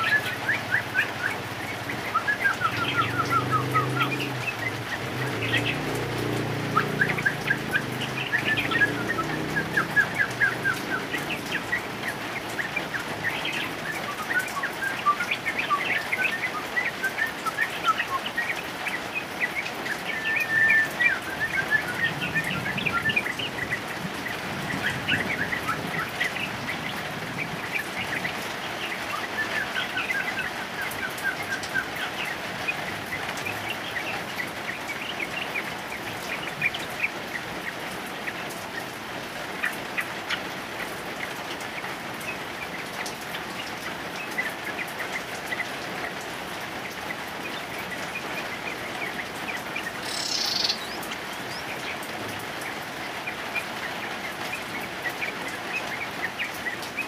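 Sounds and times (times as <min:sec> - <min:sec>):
bird chattering song: 0:00.0 - 0:46.2, 0:46.8 - 0:57.0
heavy rain hiss: 0:00.0 - 0:57.0.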